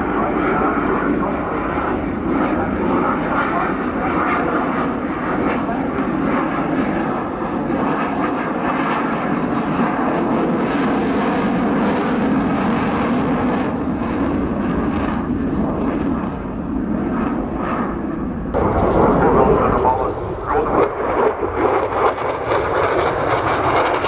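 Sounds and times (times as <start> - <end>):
jet engines rushing: 0.0 - 17.5, 18.2 - 24.0.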